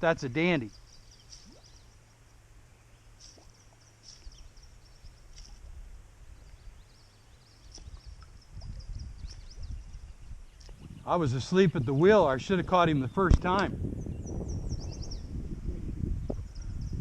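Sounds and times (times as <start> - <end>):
small birds chirping: 0.2 - 13.2, 14.0 - 15.4
wind rumbling on microphone: 3.2 - 17.0.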